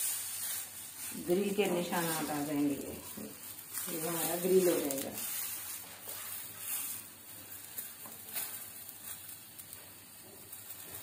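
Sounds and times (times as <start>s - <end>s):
tortilla sizzling on grill pan: 0.0s - 11.0s.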